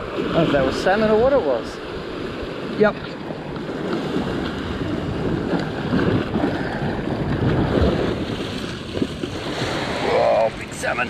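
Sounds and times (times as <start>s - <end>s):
ocean surf washing against rocks: 0.0s - 11.0s
wind buffeting microphone: 0.0s - 11.0s.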